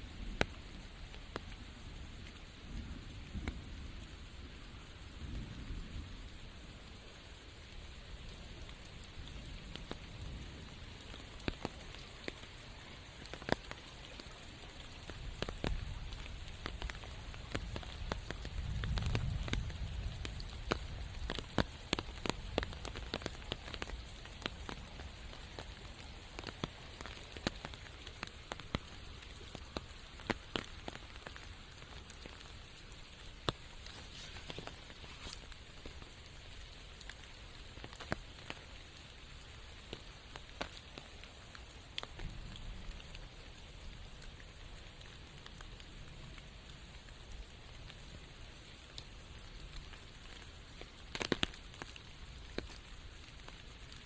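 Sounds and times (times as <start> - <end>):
rain drops tapping: 0.0 - 54.0.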